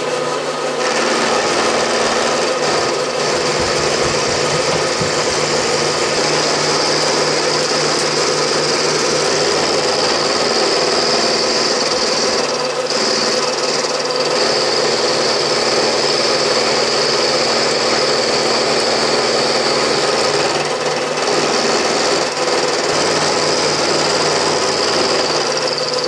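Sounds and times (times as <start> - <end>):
high-pitched metal cutting whine: 0.0 - 26.0
milling machine hum: 0.0 - 26.0.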